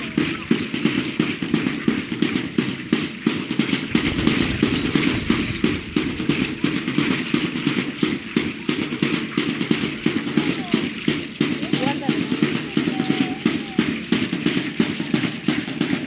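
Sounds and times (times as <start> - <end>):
rapid drum beat: 0.0 - 16.0
seed-pod ankle rattles shaking: 0.0 - 16.0.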